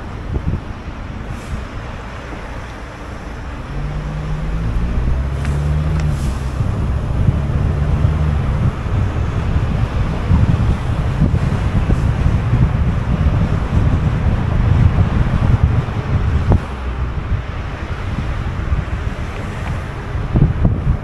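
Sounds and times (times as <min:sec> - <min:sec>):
car road and engine rumble: 0:00.0 - 0:21.0
wind buffeting microphone: 0:00.0 - 0:21.0.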